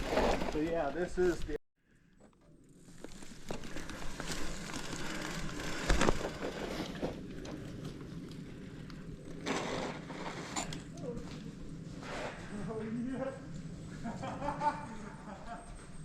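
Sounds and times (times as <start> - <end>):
bike tyres on dirt trail: 0.0 - 16.0.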